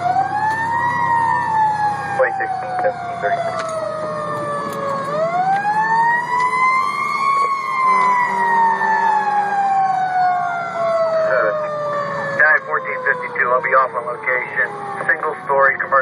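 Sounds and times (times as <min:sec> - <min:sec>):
fire engine siren wailing: 0:00.0 - 0:16.0.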